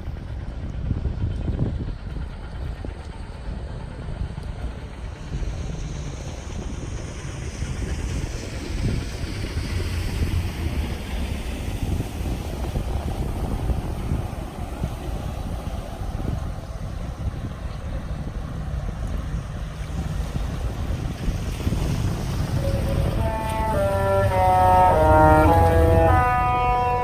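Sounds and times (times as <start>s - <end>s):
wind buffeting microphone: 0.0s - 27.0s
broad rushing noise: 4.8s - 27.0s.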